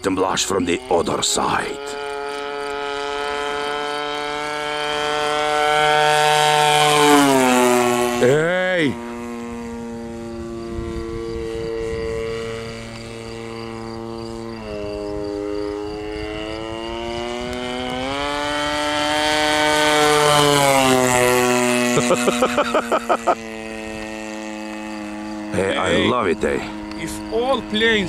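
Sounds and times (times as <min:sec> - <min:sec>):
model plane engine flyby: 0:00.0 - 0:28.0.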